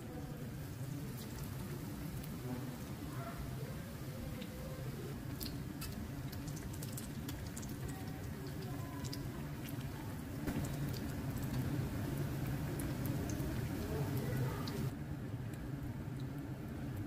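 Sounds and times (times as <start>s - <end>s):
food deep-frying in oil: 0.0s - 17.0s
steady low hum: 0.0s - 17.0s.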